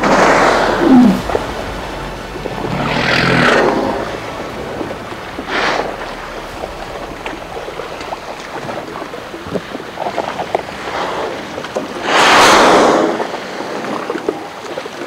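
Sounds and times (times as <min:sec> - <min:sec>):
loud whooshing rushes: 0:00.0 - 0:13.8
wind and sea noise: 0:00.0 - 0:15.0.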